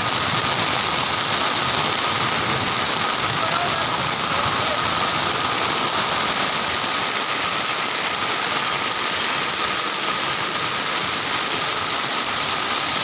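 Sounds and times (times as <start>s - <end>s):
heavy rain pouring: 0.0s - 13.0s
runoff water rushing: 0.0s - 13.0s.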